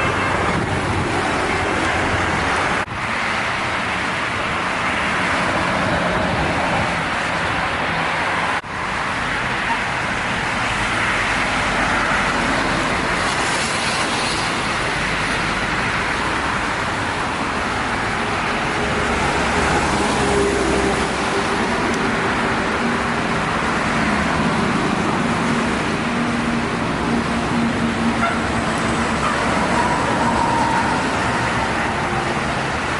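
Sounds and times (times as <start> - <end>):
heavy vehicle engine hum: 0.0 - 32.9
road traffic passing at speed: 0.0 - 32.9.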